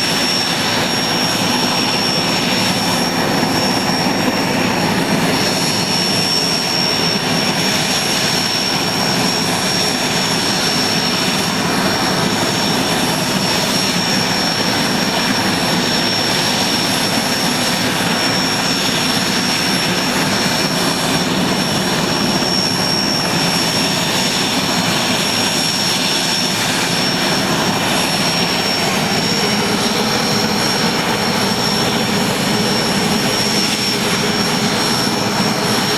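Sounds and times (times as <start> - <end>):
helicopter rotor rush: 0.0 - 35.9
helicopter turbine whine: 0.0 - 35.9.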